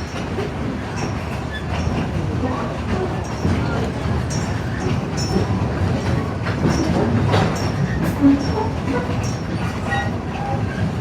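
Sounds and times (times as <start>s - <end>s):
train rumbling: 0.0s - 11.0s
wheels clicking over rail joints: 0.0s - 11.0s.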